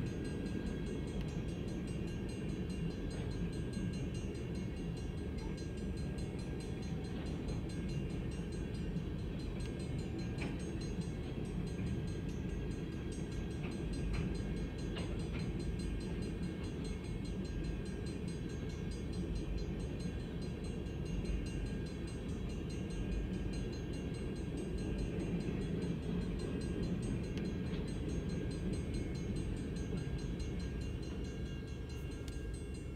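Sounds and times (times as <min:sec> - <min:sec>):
freight train rumble: 0:00.0 - 0:32.9
train clacks: 0:00.1 - 0:32.9.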